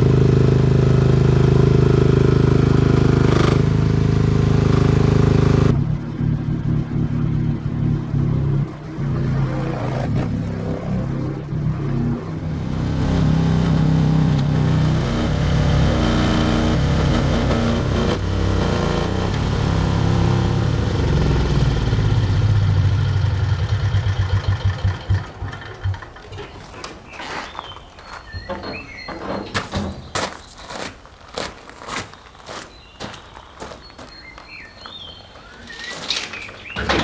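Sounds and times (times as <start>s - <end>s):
excavator engine running: 0.0s - 6.3s, 10.3s - 37.0s.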